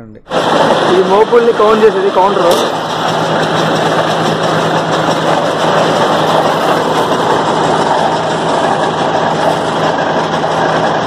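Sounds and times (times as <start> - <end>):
round baler running: 0.3 - 11.0.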